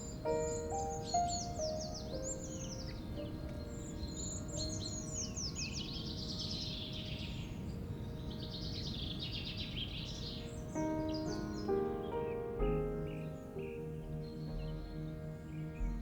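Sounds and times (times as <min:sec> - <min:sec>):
faint background music tones: 0:00.0 - 0:16.0
songbirds singing and trilling: 0:00.0 - 0:16.0.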